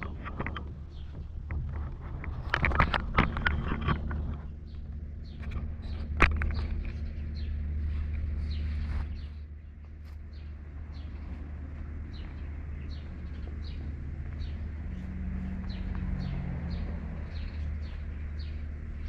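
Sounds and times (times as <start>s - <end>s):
small bird chirping: 0.0s - 19.0s
steady low rumble: 0.0s - 19.0s.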